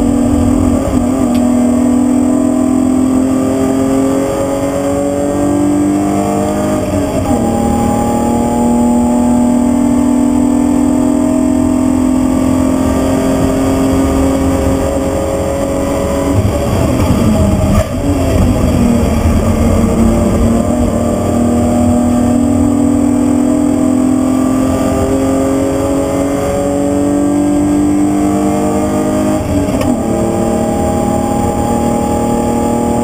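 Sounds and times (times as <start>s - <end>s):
car engine revving under load: 0.0s - 33.0s
road noise rumble: 0.0s - 33.0s.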